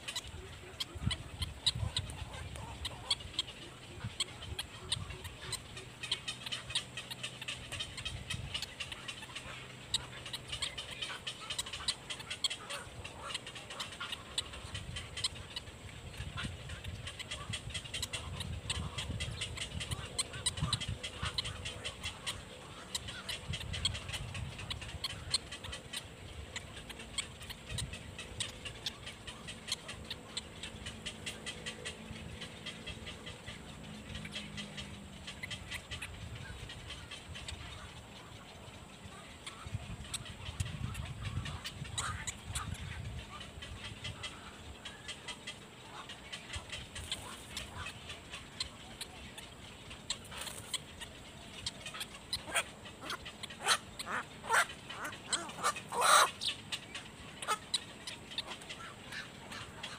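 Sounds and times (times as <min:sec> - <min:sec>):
heron chick clicking calls: 0:00.0 - 0:59.9.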